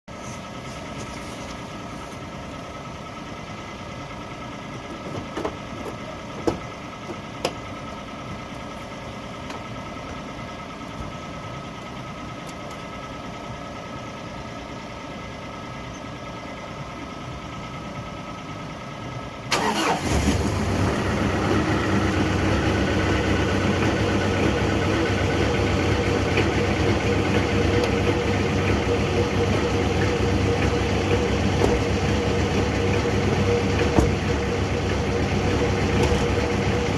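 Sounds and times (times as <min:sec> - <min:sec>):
diesel engine cranking and idling: 0:00.1 - 0:36.9.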